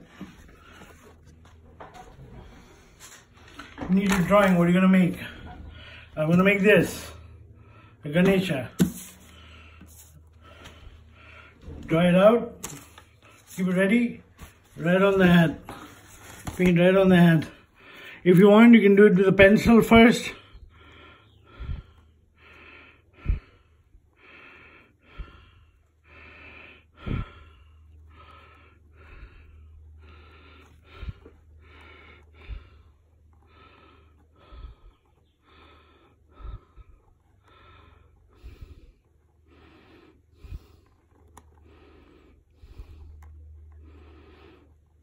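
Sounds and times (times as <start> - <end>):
man breathing close to microphone: 0.0 - 16.6, 17.4 - 18.3, 20.2 - 45.0
steady low hum: 0.0 - 45.0.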